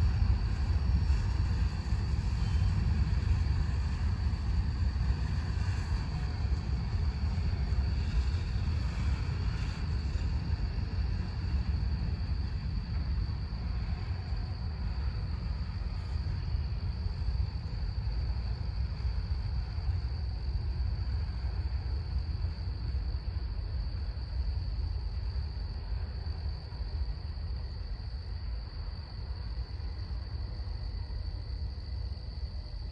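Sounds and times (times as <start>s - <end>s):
crickets trilling: 0.0s - 32.9s.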